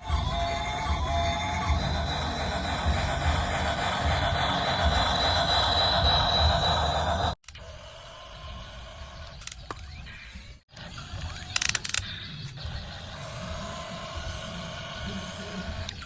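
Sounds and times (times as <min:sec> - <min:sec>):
toy gear mechanism whirring: 0:00.0 - 0:09.8, 0:11.0 - 0:12.2, 0:13.2 - 0:16.0.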